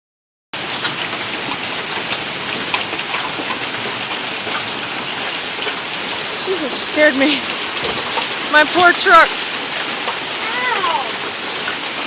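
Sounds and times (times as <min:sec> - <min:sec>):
hailstones ticking on hard surfaces: 0:00.6 - 0:12.0
rain hissing: 0:00.6 - 0:12.0.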